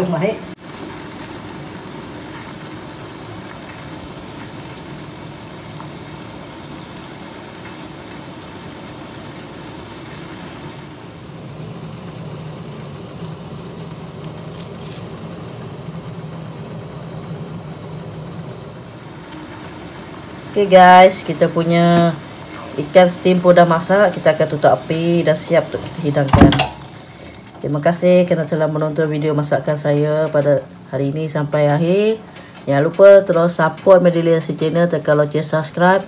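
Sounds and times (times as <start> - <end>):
water boiling in a steamer: 0.0 - 36.0.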